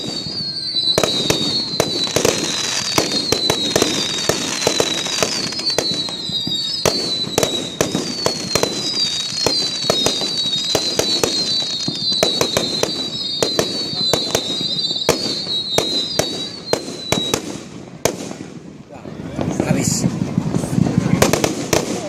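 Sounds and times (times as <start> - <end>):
firework whistles: 0.0 - 18.7
fireworks bangs and pops: 0.0 - 22.0.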